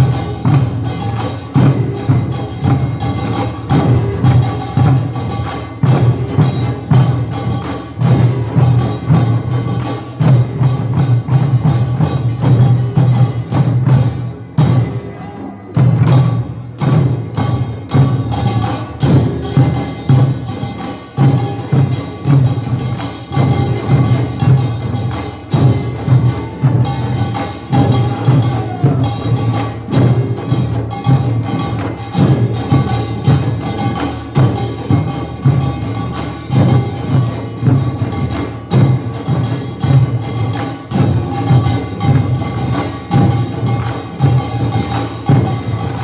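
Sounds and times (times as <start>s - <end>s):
drums beating: 0.0s - 46.0s.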